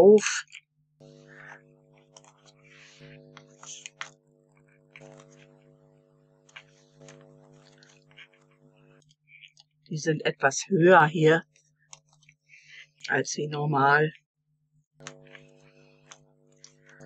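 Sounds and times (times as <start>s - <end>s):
steady low hum: 1.0s - 17.0s.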